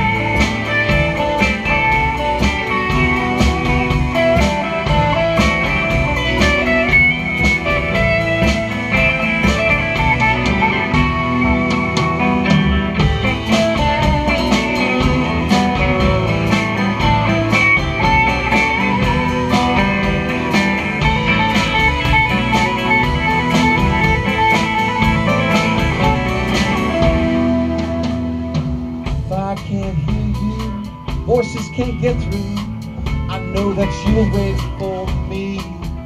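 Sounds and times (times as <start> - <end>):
drum kit beat: 0.0 - 36.0
electric guitars: 0.0 - 36.0.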